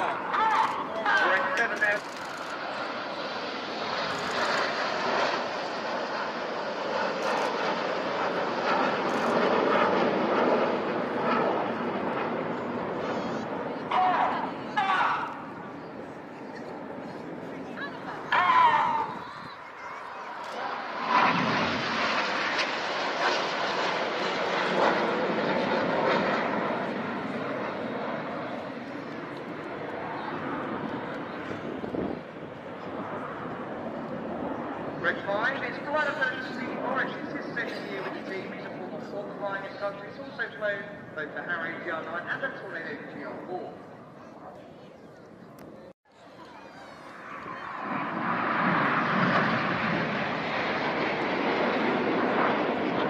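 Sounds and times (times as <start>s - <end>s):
jets flying past: 0.0s - 44.6s, 46.6s - 53.0s.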